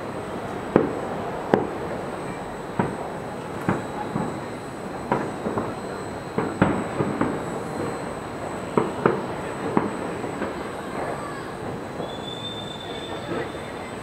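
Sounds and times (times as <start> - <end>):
steady background noise: 0.0 - 14.0
distant fireworks bangs: 0.6 - 14.0.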